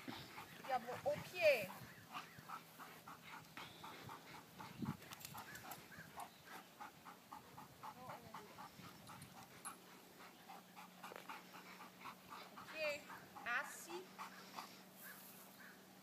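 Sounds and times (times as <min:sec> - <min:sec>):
dog panting: 0:00.0 - 0:15.2.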